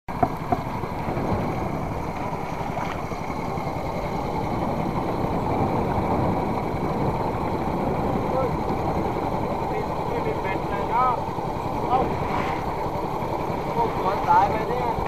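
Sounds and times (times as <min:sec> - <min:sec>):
boat engine running: 0:00.1 - 0:15.0
water rushing along hull: 0:00.1 - 0:15.0.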